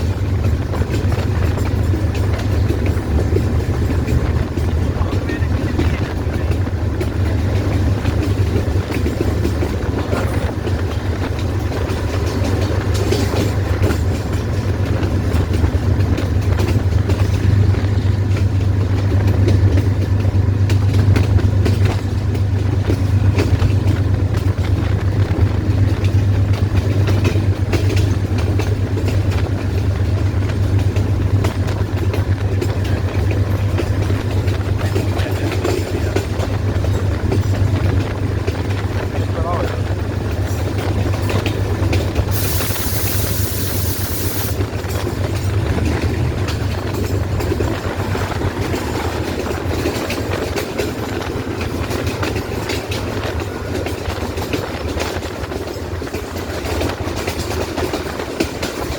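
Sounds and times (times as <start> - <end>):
locomotive engine droning: 0.0 - 58.9
train running on rails: 0.0 - 58.9.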